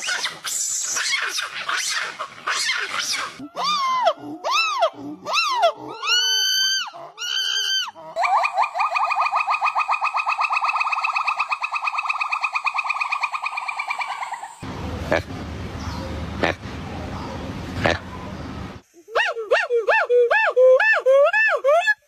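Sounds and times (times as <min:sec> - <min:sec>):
monkey calls: 0:00.0 - 0:22.0.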